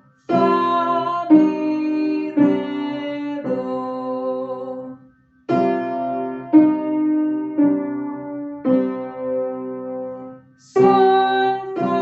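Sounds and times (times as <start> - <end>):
piano notes: 0.0 - 12.0.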